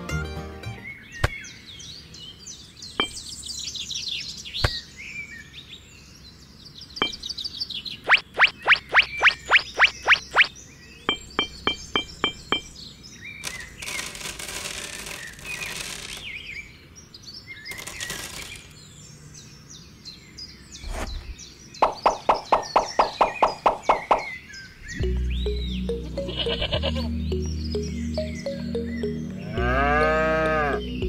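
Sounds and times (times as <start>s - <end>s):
bird chirps: 0.8s - 14.2s, 15.1s - 31.0s.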